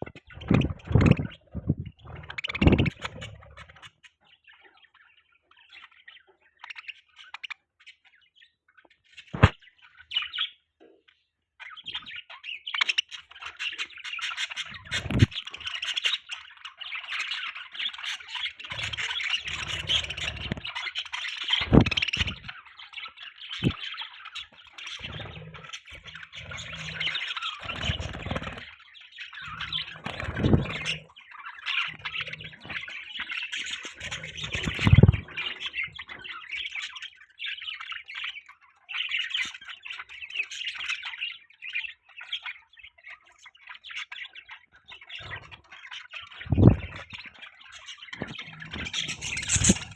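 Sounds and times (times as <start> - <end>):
budgerigars chirping: 0.0 - 8.6, 11.6 - 49.9.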